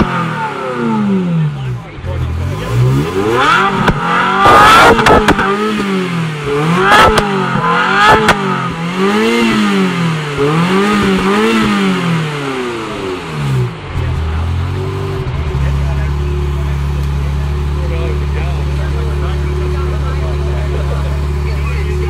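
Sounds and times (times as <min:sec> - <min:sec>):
car engine revving: 0:00.0 - 0:22.0
exhaust cracks: 0:00.0 - 0:22.0.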